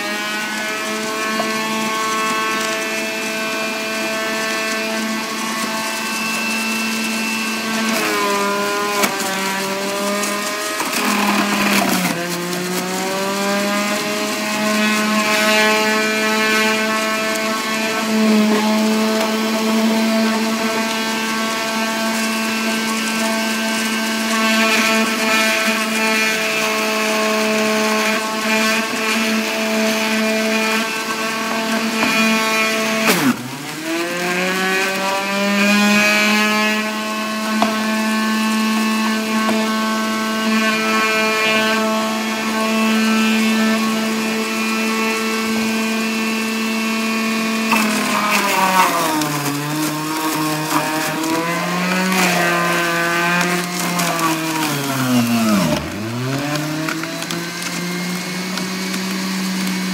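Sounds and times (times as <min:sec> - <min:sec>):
juicer motor whining: 0:00.0 - 0:59.9.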